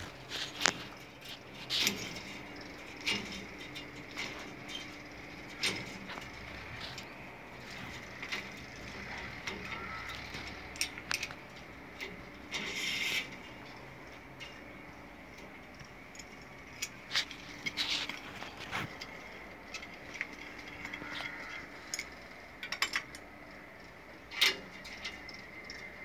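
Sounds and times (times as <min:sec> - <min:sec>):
small metallic clicks and taps: 0:00.0 - 0:23.7.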